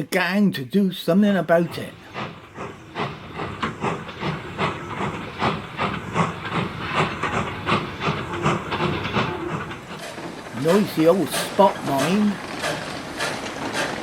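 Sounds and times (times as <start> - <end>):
steam locomotive chuffing: 0.6 - 14.0
steam hissing: 1.0 - 14.0.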